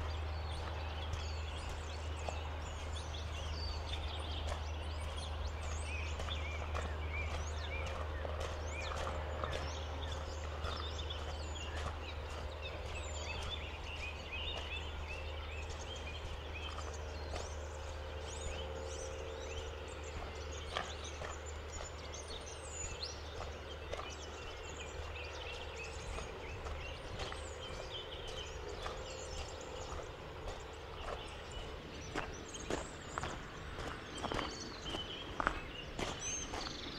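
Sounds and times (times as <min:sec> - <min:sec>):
footsteps: 0:00.0 - 0:36.9
low steady rumble: 0:00.0 - 0:36.9
small birds chirping: 0:00.0 - 0:36.9.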